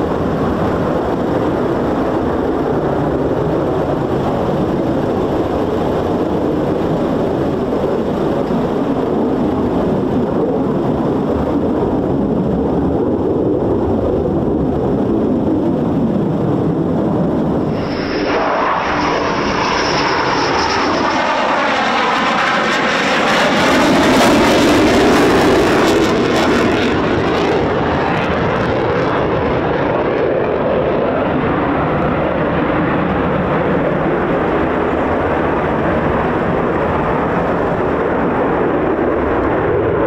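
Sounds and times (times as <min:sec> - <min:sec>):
distant jet rumble: 0:00.0 - 0:40.0
jet passing low with whine: 0:00.0 - 0:40.0.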